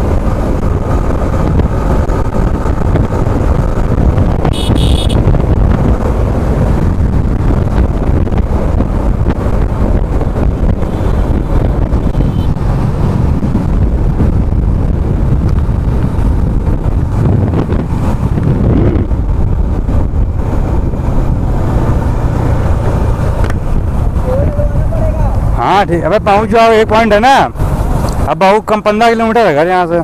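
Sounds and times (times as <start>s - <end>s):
motorcycle engine running: 0.0s - 25.6s
road noise: 0.0s - 30.0s
wind rushing over microphone: 0.0s - 30.0s.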